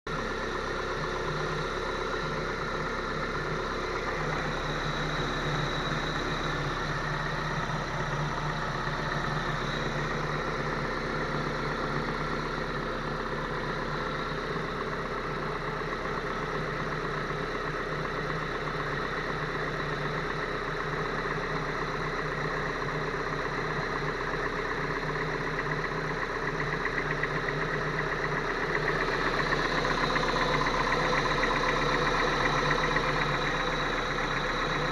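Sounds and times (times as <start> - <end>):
car engine idling with a knock: 0.1 - 34.9.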